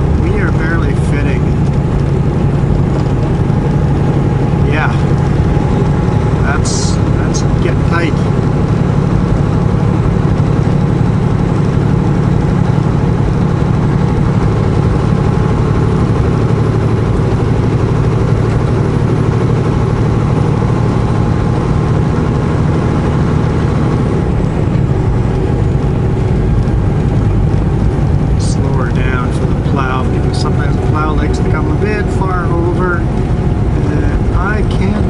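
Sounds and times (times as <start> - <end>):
truck diesel engine droning: 0.0 - 35.0.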